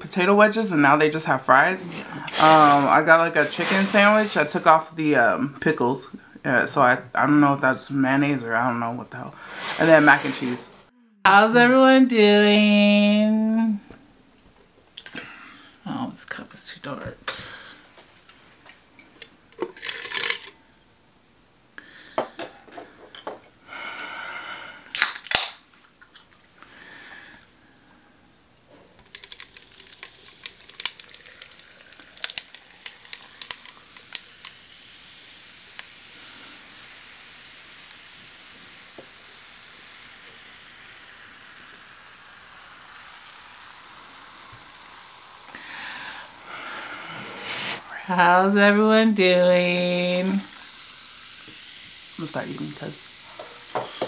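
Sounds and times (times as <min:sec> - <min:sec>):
room tone hiss: 0:00.0 - 0:54.0.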